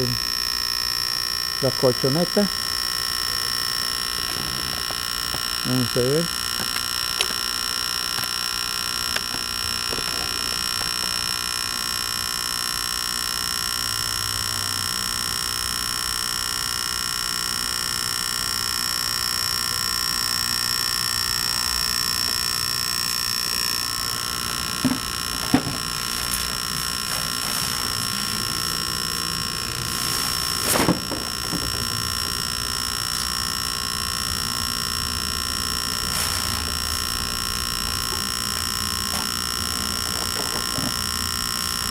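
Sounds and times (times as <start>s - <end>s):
air mattress inflator whining: 0.0s - 16.8s, 17.7s - 41.9s.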